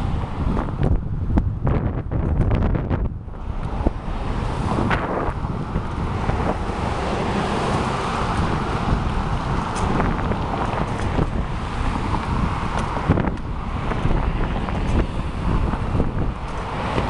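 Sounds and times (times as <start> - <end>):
road traffic: 0.0 - 17.0
wind noise on microphone: 0.0 - 17.0.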